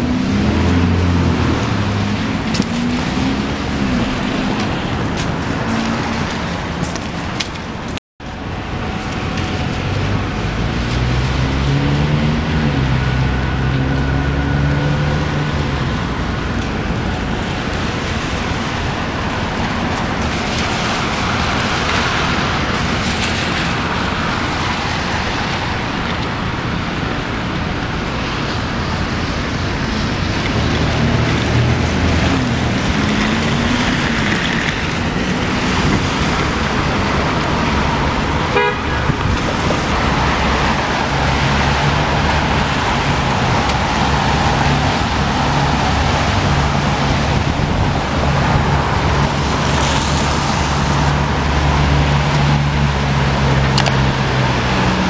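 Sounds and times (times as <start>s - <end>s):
traffic on wet pavement: 0.0s - 55.0s
vehicle engine hum: 0.0s - 55.0s.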